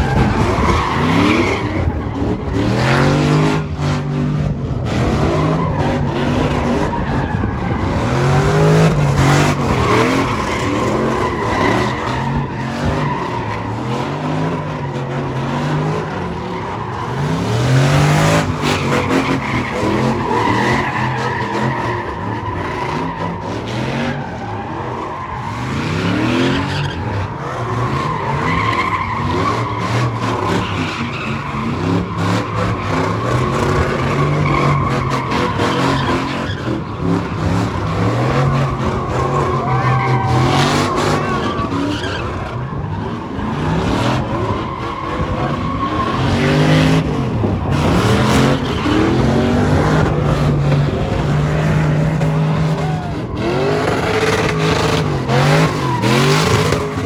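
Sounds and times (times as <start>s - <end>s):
car engines revving: 0.0s - 57.0s
tires squealing: 0.0s - 57.0s.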